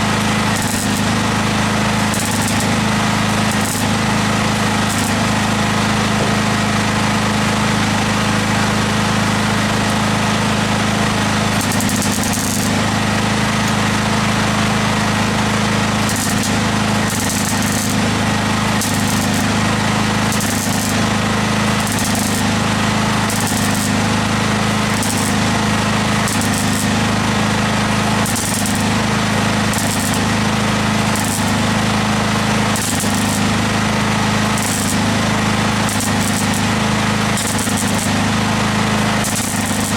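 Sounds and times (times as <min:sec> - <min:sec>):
welder crackling sizzle: 0:00.0 - 0:39.9.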